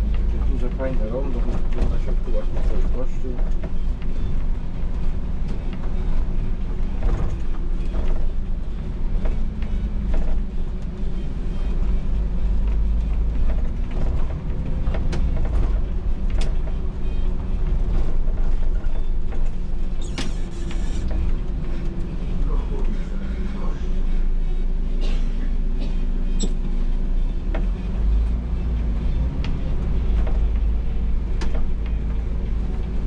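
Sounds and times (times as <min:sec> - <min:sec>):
bus body creaks and rattles: 0:00.0 - 0:33.0
bus engine and road rumble: 0:00.0 - 0:33.0.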